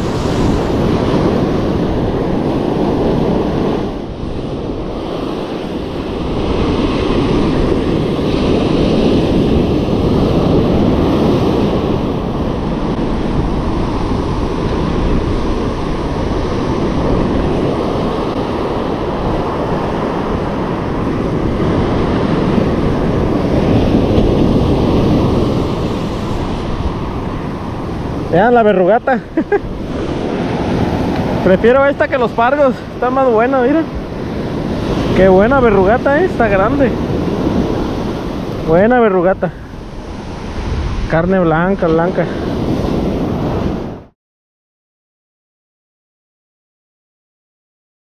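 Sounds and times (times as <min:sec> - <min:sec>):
ocean surf breaking: 0:00.0 - 0:44.2
wind blowing across microphone: 0:00.0 - 0:44.2.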